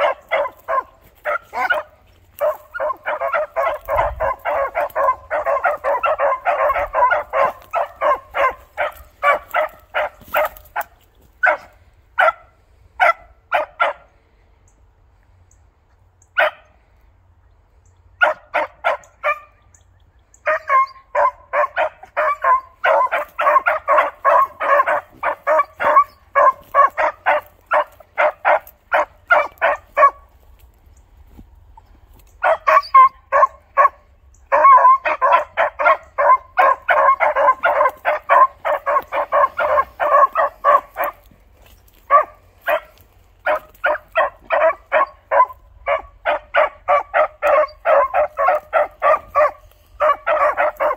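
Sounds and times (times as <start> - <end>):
dogs barking rapidly: 0.0 - 14.2, 16.3 - 16.8, 18.2 - 19.6, 20.4 - 30.7, 31.7 - 50.9.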